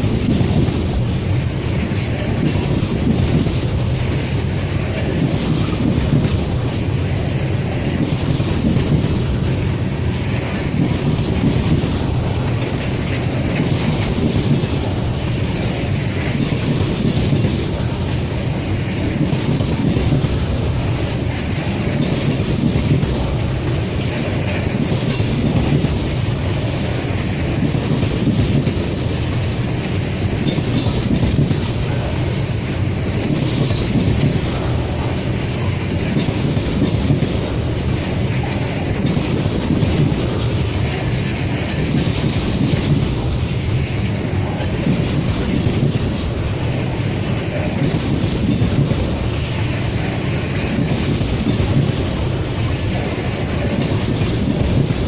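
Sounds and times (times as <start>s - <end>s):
train wheels rumbling: 0.0s - 55.0s
wheels clickety-clack over rail joints: 0.0s - 55.0s.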